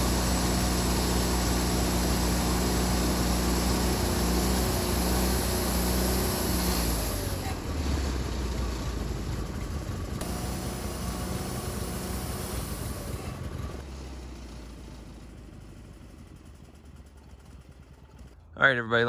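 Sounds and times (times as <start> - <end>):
engine running: 0.0 - 18.5.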